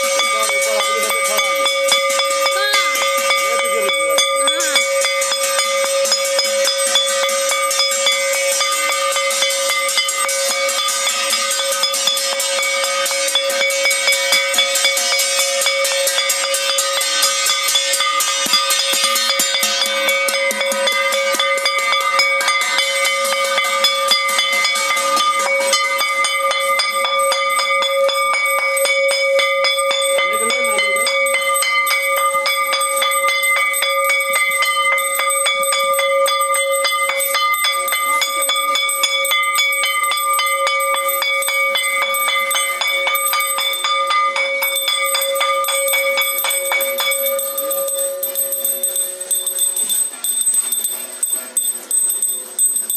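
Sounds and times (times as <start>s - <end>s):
bell ringing continuously: 0.0s - 52.9s.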